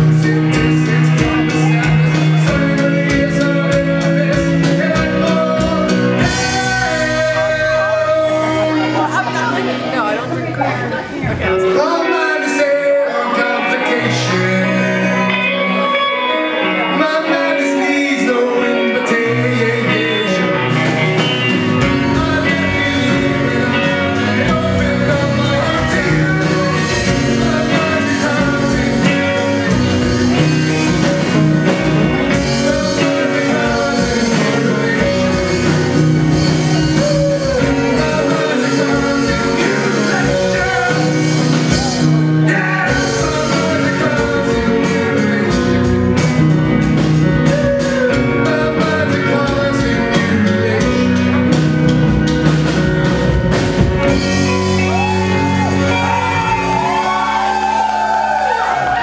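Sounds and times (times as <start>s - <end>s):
drum kit with cymbals: 0.0s - 10.1s, 20.7s - 59.0s
bass guitar: 0.0s - 59.0s
electric guitars: 0.0s - 59.0s.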